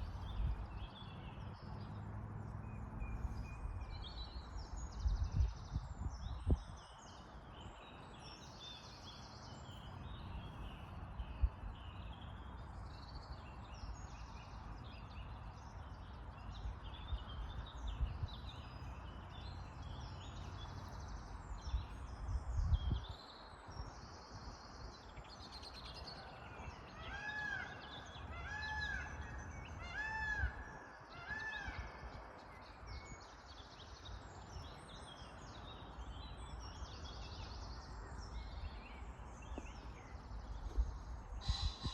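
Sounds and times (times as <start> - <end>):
songbirds chirping and singing: 0.0 - 41.9.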